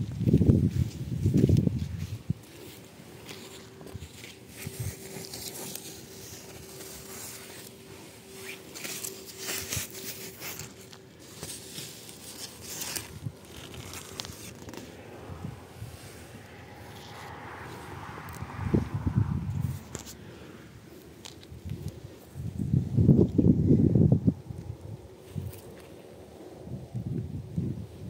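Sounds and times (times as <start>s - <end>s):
leaves rustling and crackling: 0.0s - 23.6s, 24.5s - 26.6s
faint steady hum: 0.0s - 28.0s.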